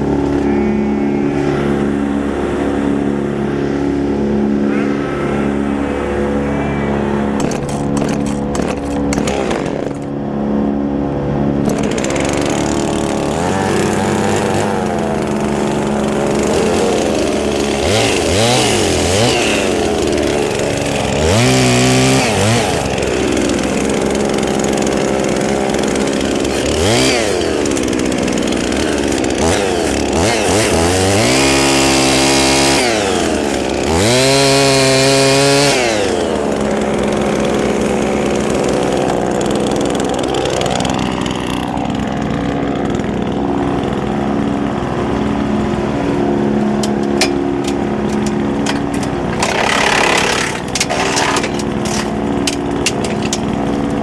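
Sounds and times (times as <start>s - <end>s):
wood chipper running: 0.0s - 54.0s.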